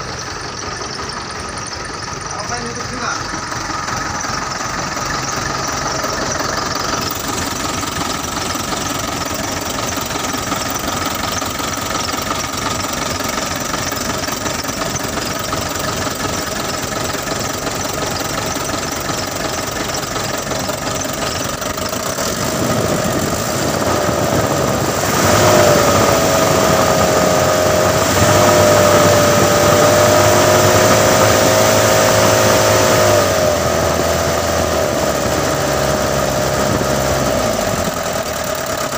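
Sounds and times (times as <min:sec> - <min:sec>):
diesel truck engine running: 0:00.0 - 0:38.9
engine whine: 0:00.0 - 0:38.9.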